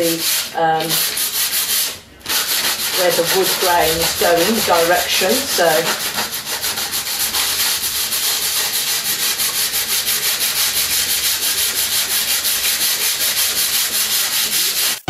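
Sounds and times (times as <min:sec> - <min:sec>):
sandpaper rubbing on wood: 0:00.0 - 0:15.0.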